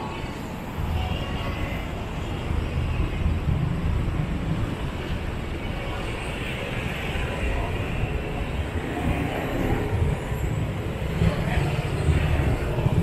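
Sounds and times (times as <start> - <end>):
low rumble of engines and tyres: 0.0 - 13.0.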